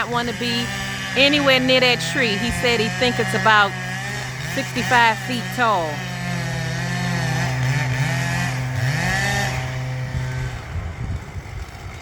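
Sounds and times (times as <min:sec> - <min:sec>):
chainsaw cutting tree: 0:00.0 - 0:12.0.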